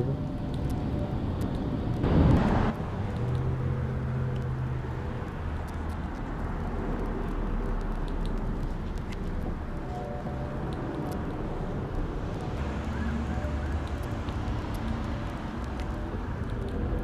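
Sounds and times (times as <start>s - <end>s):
engine hum: 0.0s - 17.0s
vehicles passing: 0.0s - 17.0s.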